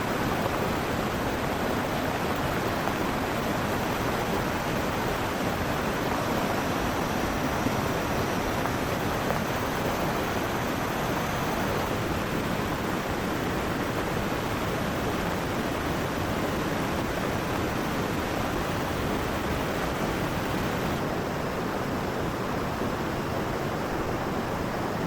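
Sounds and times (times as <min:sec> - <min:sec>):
heavy rain: 0:00.0 - 0:25.0
river water rushing: 0:00.0 - 0:25.0.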